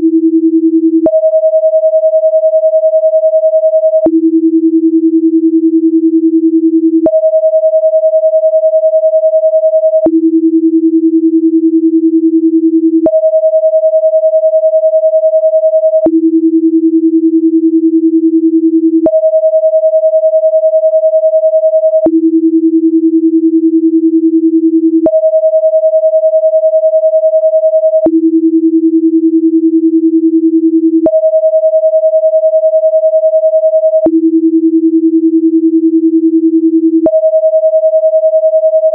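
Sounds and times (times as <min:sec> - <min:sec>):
alternating sine tones: 0:00.0 - 0:10.6, 0:11.2 - 0:22.8, 0:24.2 - 0:36.0, 0:36.8 - 0:38.9.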